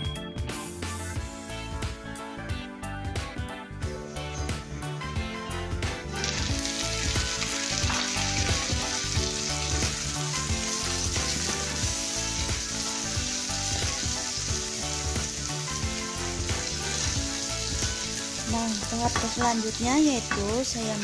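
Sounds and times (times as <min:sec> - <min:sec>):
food sizzling in hot oil: 0:03.9 - 0:21.0.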